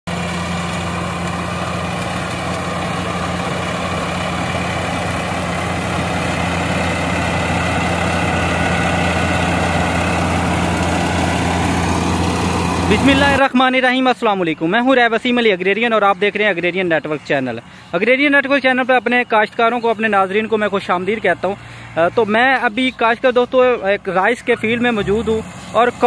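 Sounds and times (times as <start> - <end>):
combine harvester engine hum: 0.1 - 13.6, 14.2 - 26.0.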